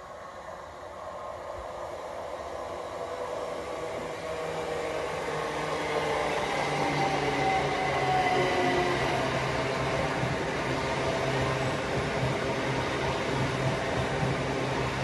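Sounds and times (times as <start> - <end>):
electric train approaching: 0.4 - 15.0.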